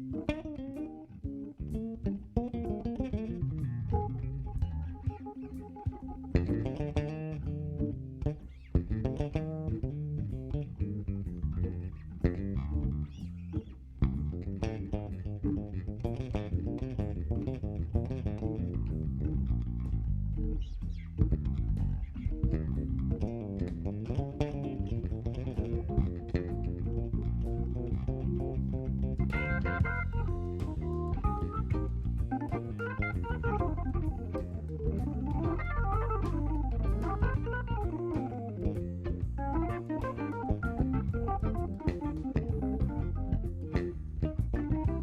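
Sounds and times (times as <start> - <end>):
electric bass guitar: 0.0 - 45.0
guitar: 0.0 - 45.0.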